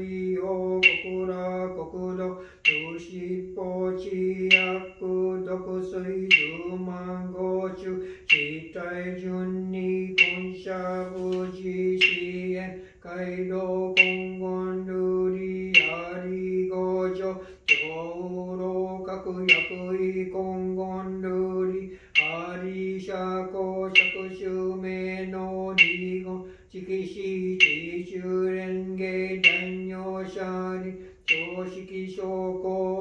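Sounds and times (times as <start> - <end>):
man chanting on one pitch: 0.0 - 33.0.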